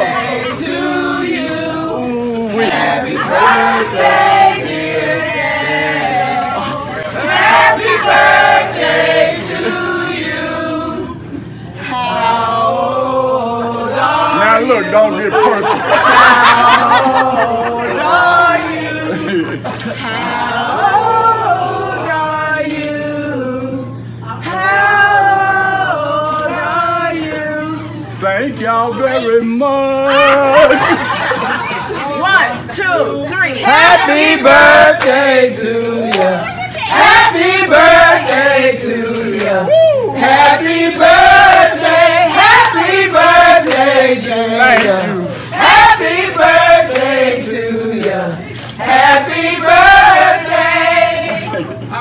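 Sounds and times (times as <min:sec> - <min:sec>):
group of voices singing: 0:00.0 - 0:28.2, 0:33.6 - 0:52.0.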